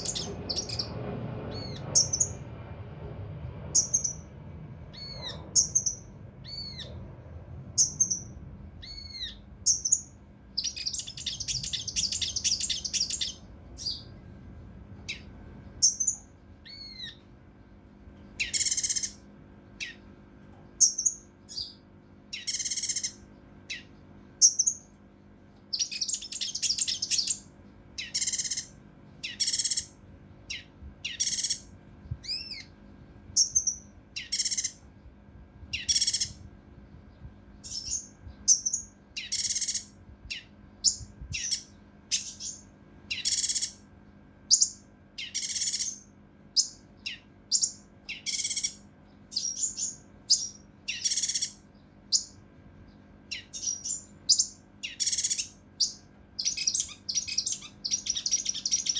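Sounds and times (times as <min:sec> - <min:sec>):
songbird whistling and rasping: 0:00.0 - 0:02.4, 0:03.8 - 0:04.3, 0:04.9 - 0:07.0, 0:07.8 - 0:14.1, 0:15.1 - 0:17.2, 0:18.4 - 0:19.2, 0:19.8 - 0:20.0, 0:20.8 - 0:24.9, 0:25.7 - 0:32.7, 0:33.4 - 0:34.8, 0:35.7 - 0:36.4, 0:37.6 - 0:43.8, 0:44.5 - 0:52.4, 0:53.3 - 0:58.9.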